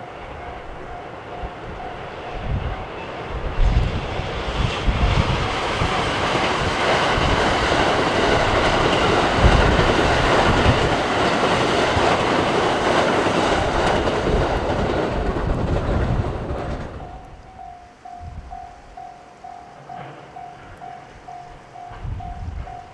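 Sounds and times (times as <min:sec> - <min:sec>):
train wheels rushing on rails: 0:00.0 - 0:22.9.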